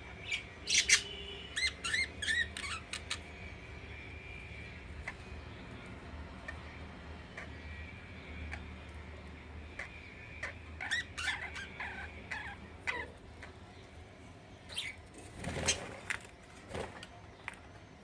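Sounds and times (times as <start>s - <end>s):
bird chirps: 0.0s - 13.9s, 14.6s - 16.2s
birds clicking and tapping: 0.2s - 14.1s, 14.7s - 17.8s.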